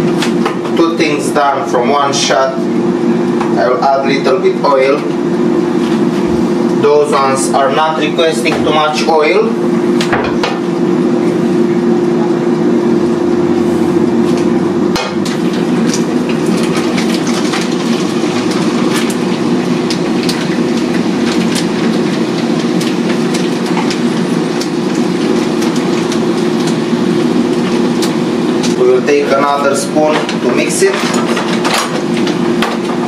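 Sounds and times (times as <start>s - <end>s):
fan hum: 0.0s - 33.0s.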